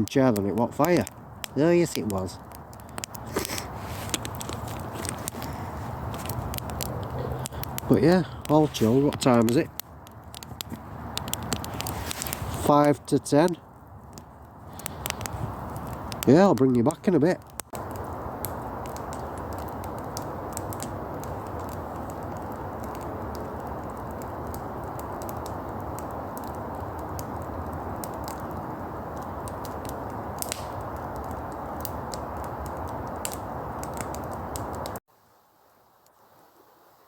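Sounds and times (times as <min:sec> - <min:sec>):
wood fire crackling: 0:00.0 - 0:36.8.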